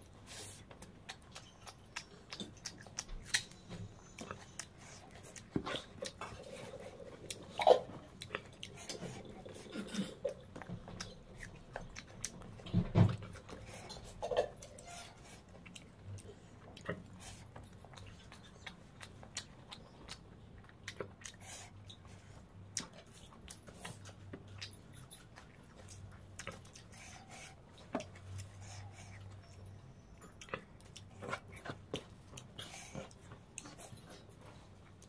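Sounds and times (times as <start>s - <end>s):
faint low hum: 0.0s - 35.0s
wet chewing and lip-smacking: 0.0s - 35.0s.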